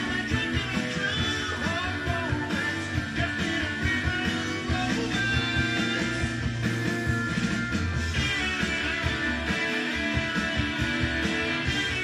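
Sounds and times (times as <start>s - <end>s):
music with steady beat from vinyl: 0.0s - 12.0s.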